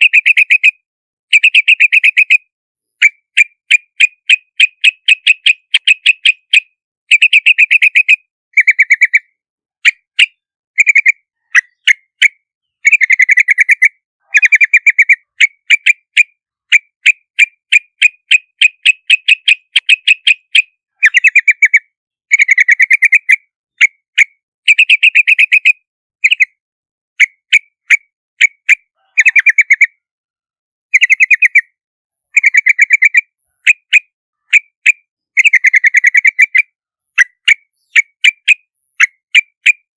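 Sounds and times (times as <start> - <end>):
bird chattering calls: 0.0 - 2.4, 3.0 - 23.9, 27.2 - 30.0, 30.9 - 31.7, 32.3 - 39.9.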